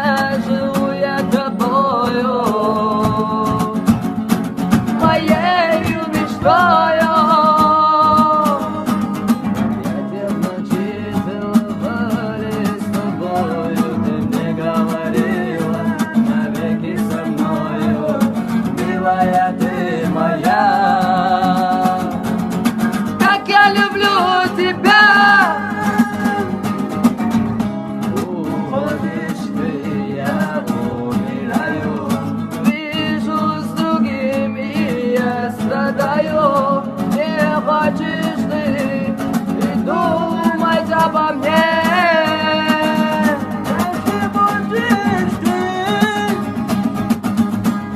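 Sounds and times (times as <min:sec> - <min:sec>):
guitar: 0:00.0 - 0:47.9.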